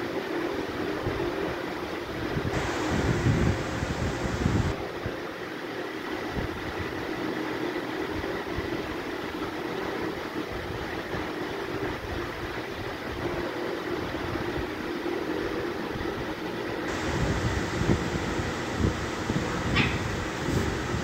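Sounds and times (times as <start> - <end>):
machine hum and rumble: 0.0 - 21.0.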